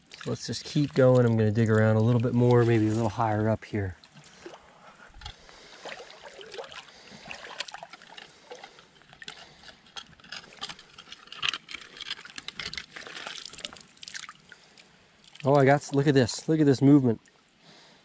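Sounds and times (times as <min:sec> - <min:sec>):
creek water splashing and trickling: 0:00.0 - 0:17.6.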